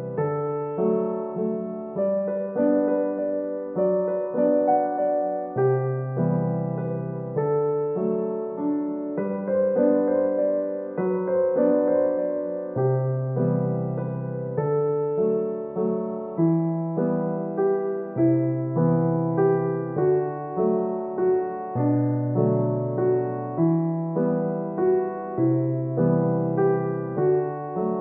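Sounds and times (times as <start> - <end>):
slow gentle piano piece: 0.0 - 28.0.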